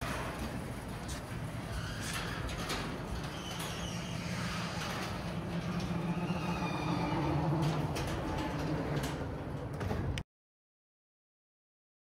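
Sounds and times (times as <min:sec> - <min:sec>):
door panels rolling down tracks: 0:00.0 - 0:10.2
garage door opener motor droning: 0:00.0 - 0:10.2.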